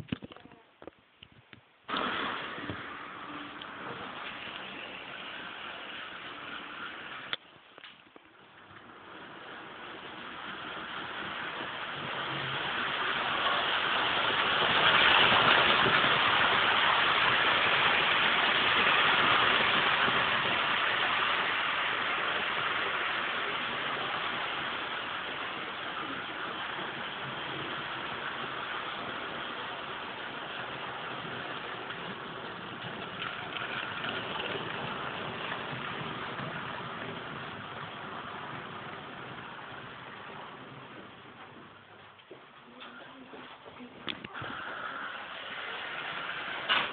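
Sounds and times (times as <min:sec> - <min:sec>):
model train whirring past: 0:01.9 - 0:42.4, 0:44.2 - 0:46.9.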